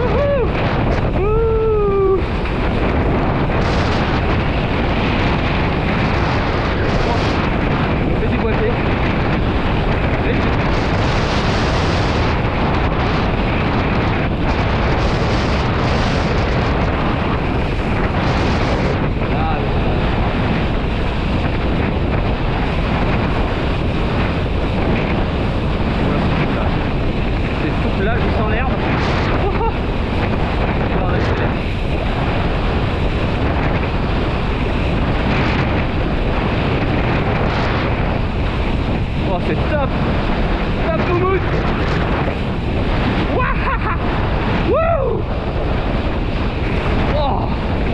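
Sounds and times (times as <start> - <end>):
water rushing under board: 0.0 - 47.9
wind blasting microphone: 0.0 - 47.9.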